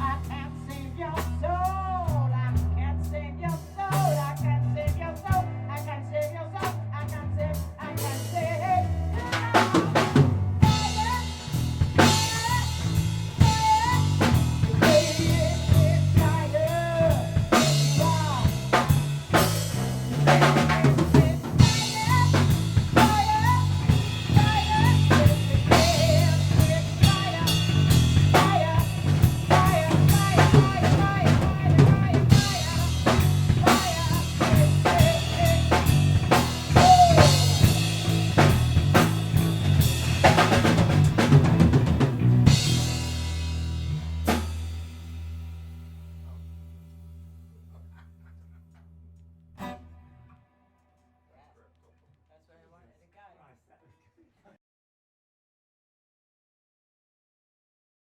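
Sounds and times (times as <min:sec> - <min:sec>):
drum kit: 0:00.0 - 0:47.9, 0:49.6 - 0:50.0
bass guitar: 0:00.0 - 0:50.4.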